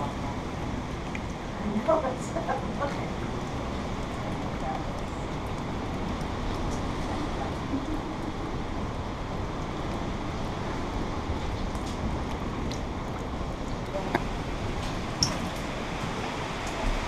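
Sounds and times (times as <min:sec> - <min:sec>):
heavy rain on roof and windows: 0:00.0 - 0:17.0.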